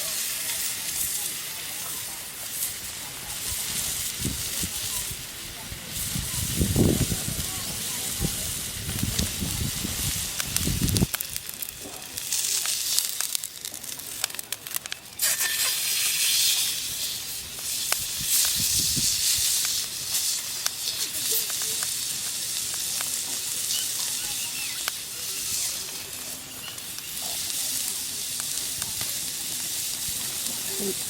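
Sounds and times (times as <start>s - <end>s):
fire pops and crackles: 0.0s - 31.0s
steak sizzling on a griddle: 0.0s - 31.0s.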